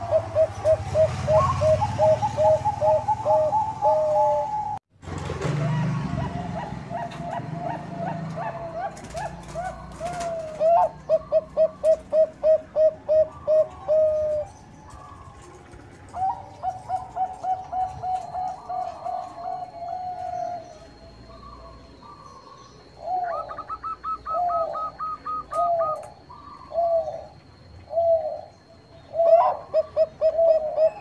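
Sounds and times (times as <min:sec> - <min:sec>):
dove cooing: 0:00.0 - 0:04.8, 0:05.4 - 0:31.0.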